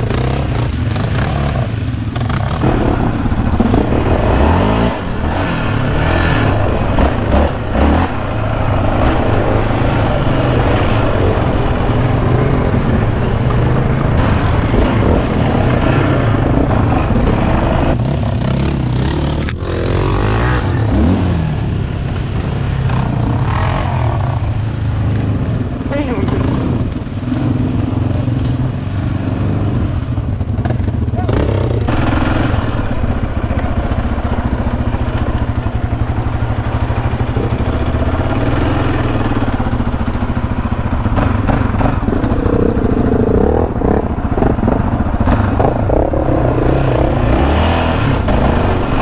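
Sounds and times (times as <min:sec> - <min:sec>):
quad engine revving: 0:00.0 - 0:21.9, 0:25.2 - 0:49.0.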